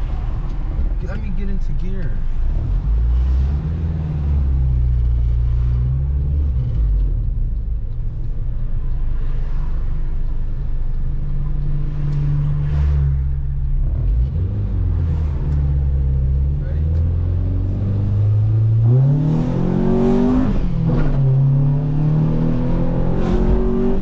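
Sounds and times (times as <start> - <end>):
car engine under load: 0.0 - 24.0.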